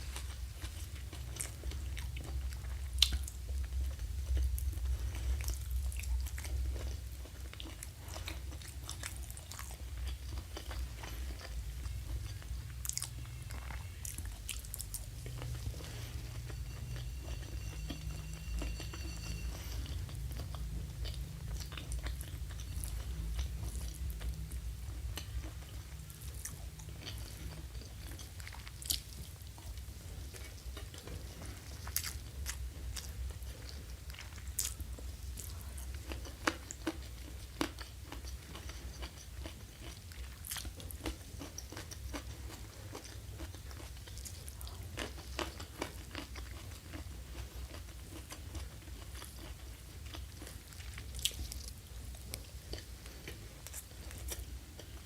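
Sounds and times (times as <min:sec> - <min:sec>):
person chewing crunchy food: 0:00.0 - 0:55.0
steady low hum: 0:00.0 - 0:55.0.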